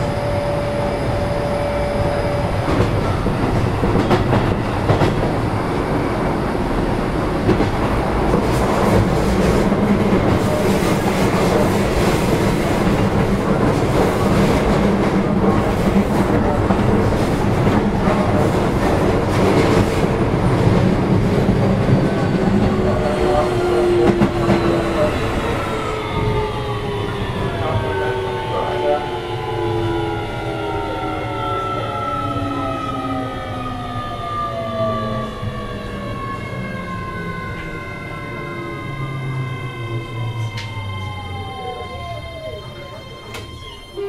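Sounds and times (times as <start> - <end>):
falling whine of braking train: 0.0 - 44.0
train rumble: 0.0 - 44.0.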